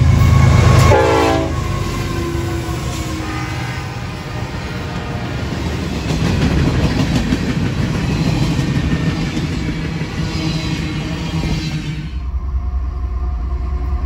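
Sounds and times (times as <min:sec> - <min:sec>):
steel train wheels on rails: 0:00.0 - 0:14.0.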